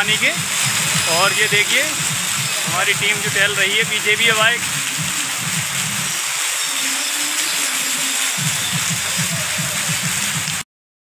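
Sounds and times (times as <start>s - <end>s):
fountain water spraying: 0.0s - 10.6s.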